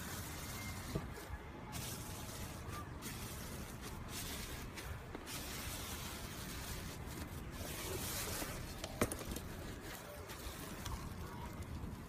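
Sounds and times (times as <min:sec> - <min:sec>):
slime squelching: 0:00.0 - 0:12.0.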